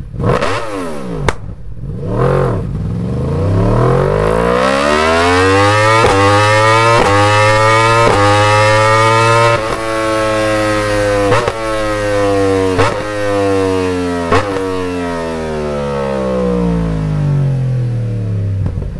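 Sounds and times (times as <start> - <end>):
sharp exhaust cracks: 0.0 - 16.8
sport bike engine and exhaust: 0.0 - 18.9.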